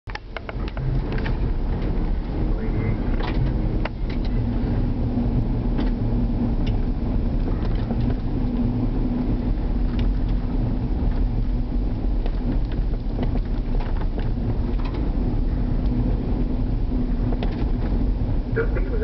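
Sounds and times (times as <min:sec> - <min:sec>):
engine and tyre rumble: 0:00.0 - 0:19.0
constant hum: 0:00.1 - 0:19.0.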